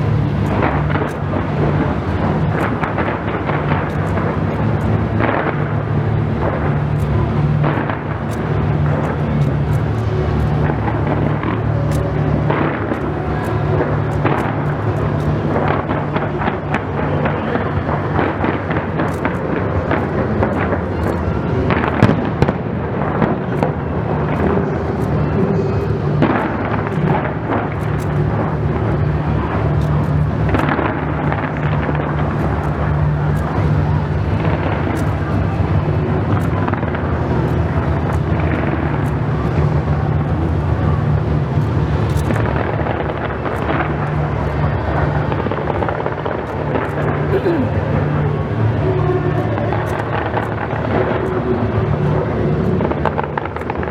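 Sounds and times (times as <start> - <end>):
fireworks bangs and crackling: 0.0 - 53.9
steady low rumble: 0.0 - 53.9.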